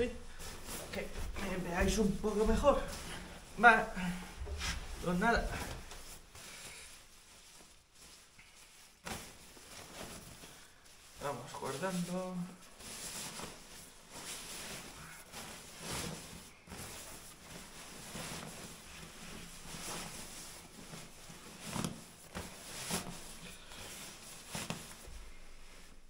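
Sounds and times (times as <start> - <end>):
sleeping bag rustling: 0.0 - 26.0.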